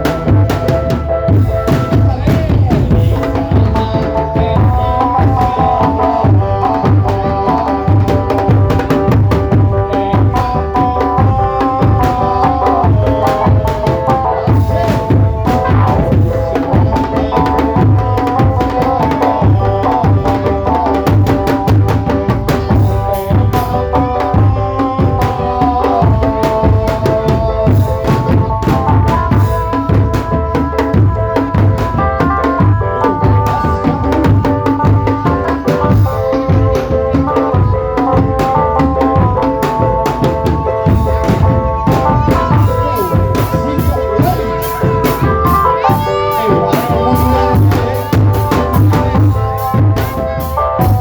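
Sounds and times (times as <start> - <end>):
fast steady drumming: 0.0 - 51.0
melody of held notes: 0.0 - 51.0.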